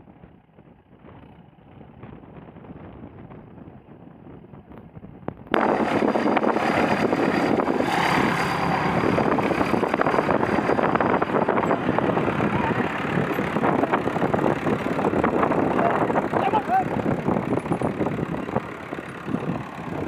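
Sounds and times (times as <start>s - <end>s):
rough vehicle running noise: 0.0s - 20.0s
wind buffeting microphone: 0.6s - 20.0s.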